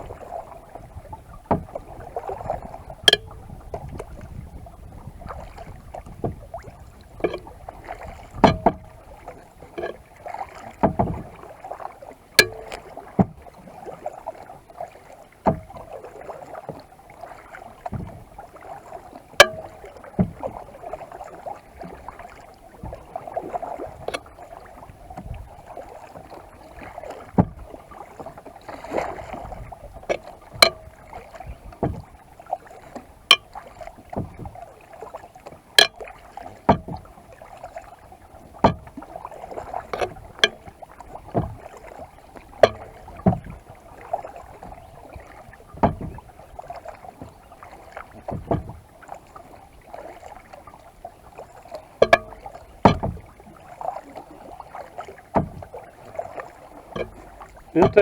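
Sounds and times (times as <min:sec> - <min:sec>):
light wash of water: 0:00.0 - 0:58.0
paddle knocks and clicks: 0:00.0 - 0:58.0.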